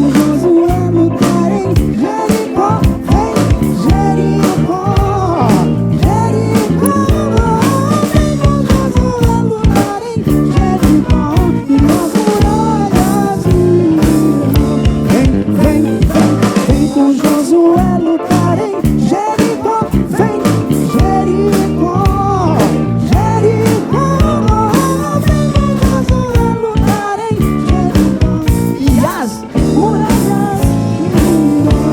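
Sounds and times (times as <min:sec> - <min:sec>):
soul band playing: 0:00.0 - 0:31.9.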